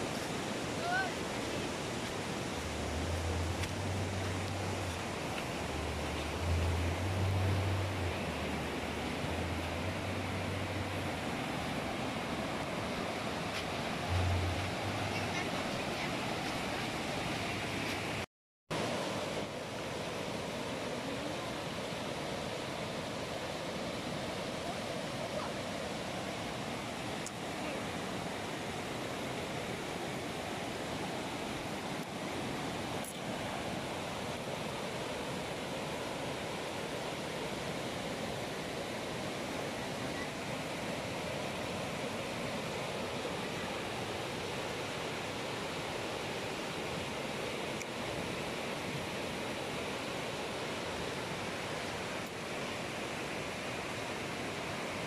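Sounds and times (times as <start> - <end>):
river rushing over rapids: 0.0 - 55.0.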